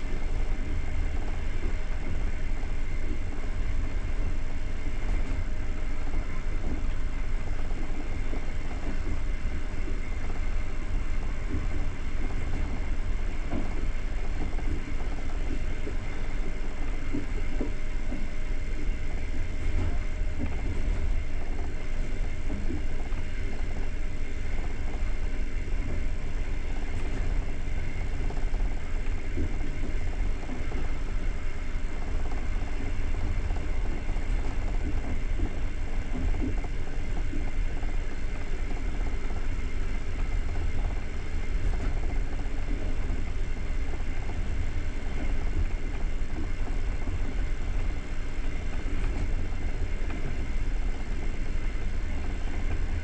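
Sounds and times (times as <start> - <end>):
faint ticks and rattles: 0.0 - 53.0.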